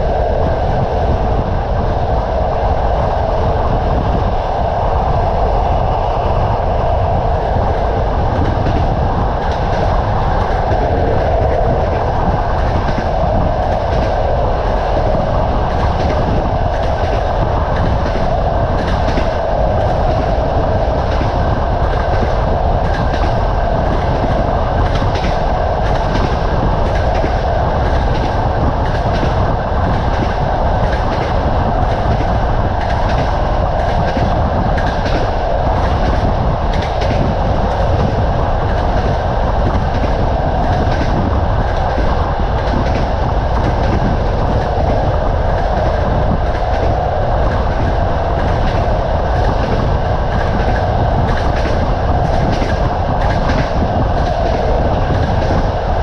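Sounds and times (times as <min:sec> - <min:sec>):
train rumbling on track: 0:00.0 - 0:56.0.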